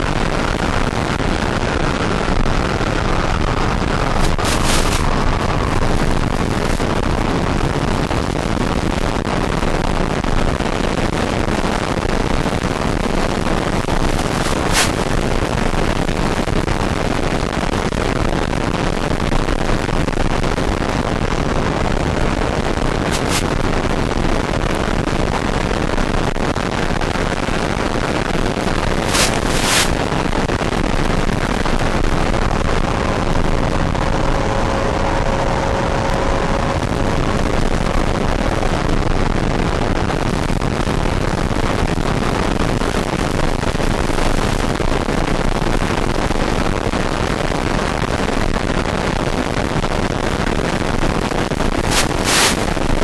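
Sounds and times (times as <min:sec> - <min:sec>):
rushing wind on microphone: 0:00.0 - 0:53.0.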